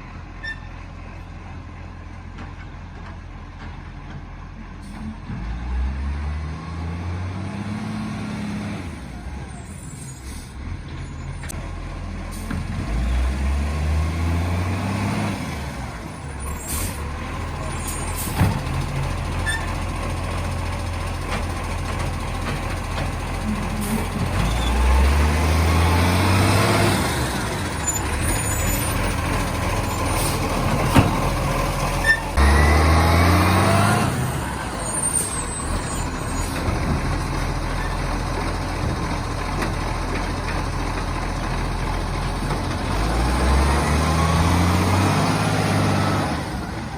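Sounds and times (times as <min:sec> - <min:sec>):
diesel engine idling and revving: 0:00.0 - 0:46.9.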